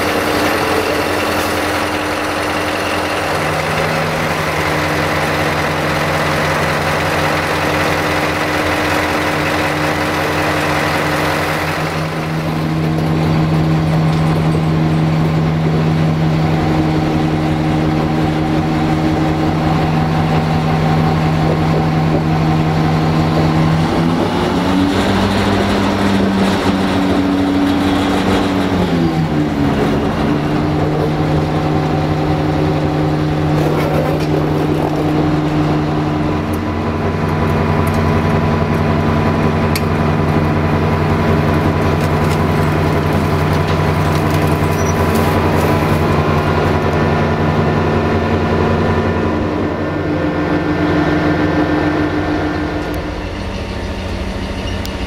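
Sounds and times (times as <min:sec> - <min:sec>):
diesel locomotive engine running: 0:00.0 - 0:55.0.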